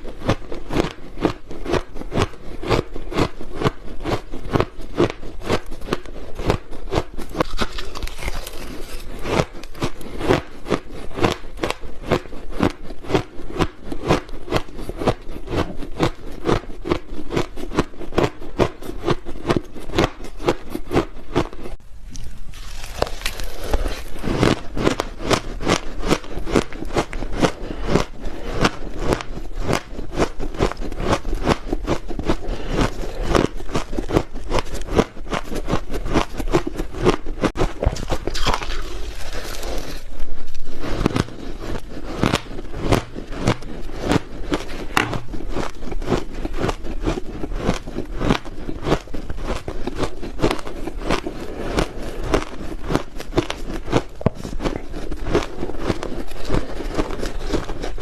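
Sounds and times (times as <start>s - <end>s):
chewing and crunching ice: 0.0s - 58.0s.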